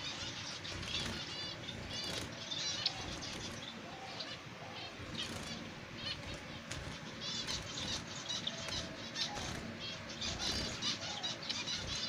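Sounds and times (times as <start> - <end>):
finches chirping: 0.0 - 12.0
wing flutters: 0.1 - 4.1, 4.7 - 12.0.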